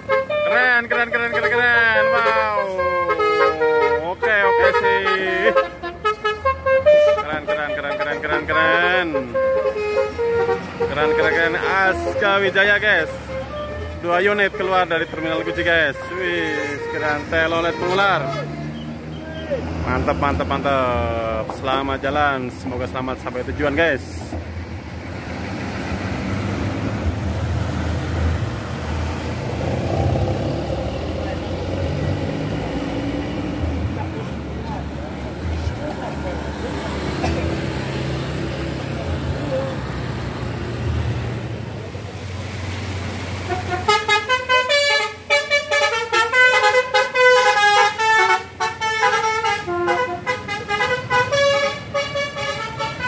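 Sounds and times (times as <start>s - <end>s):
bus engine rumbling: 0.0s - 53.0s
road noise: 0.0s - 53.0s.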